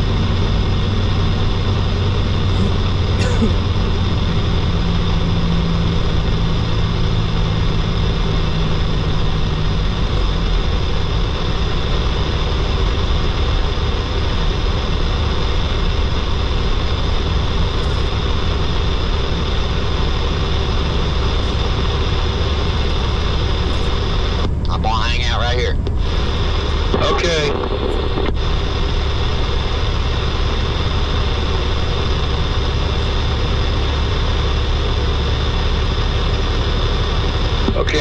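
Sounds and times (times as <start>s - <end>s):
truck diesel engine drone: 0.0s - 38.0s
tyres and wind hum: 0.0s - 38.0s.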